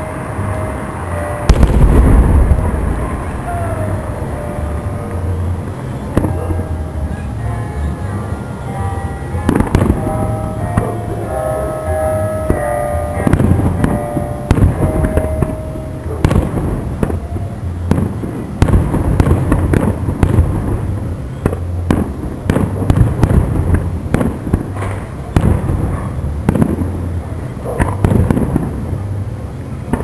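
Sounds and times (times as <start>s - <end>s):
fireworks banging and crackling: 0.0s - 7.4s, 9.4s - 30.0s
constant low rumble: 0.0s - 30.0s.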